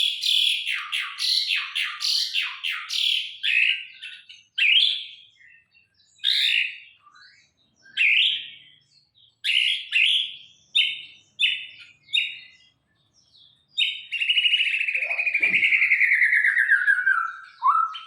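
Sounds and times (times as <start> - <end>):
songbird whistling phrases: 0.0 - 8.6, 9.4 - 12.6, 13.8 - 18.0.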